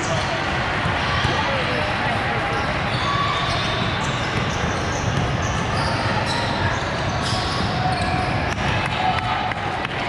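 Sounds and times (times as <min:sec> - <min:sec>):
echoing crowd chatter: 0:00.0 - 0:10.0.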